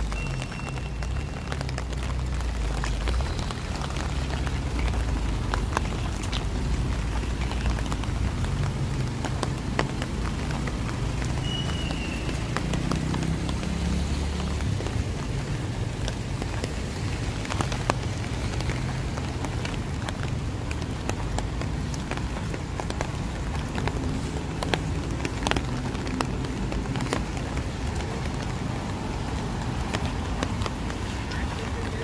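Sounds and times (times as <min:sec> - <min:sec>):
rain on hard surfaces: 0:00.0 - 0:32.0.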